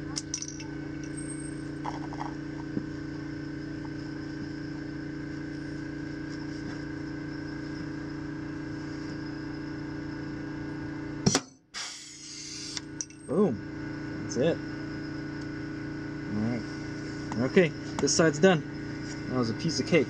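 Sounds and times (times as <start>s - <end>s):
machine hum: 0.0s - 11.3s, 12.5s - 20.0s.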